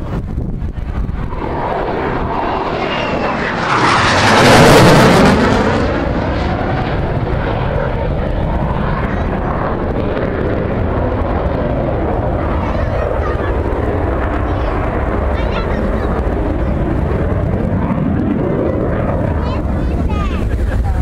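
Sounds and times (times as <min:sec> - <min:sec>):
aircraft flying overhead: 0:00.0 - 0:21.0
wind rumble on microphone: 0:00.0 - 0:21.0.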